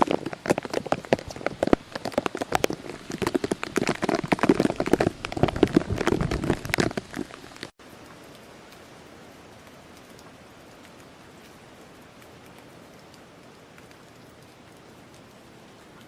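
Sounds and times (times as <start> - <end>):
raindrops spattering: 0.0 - 16.0.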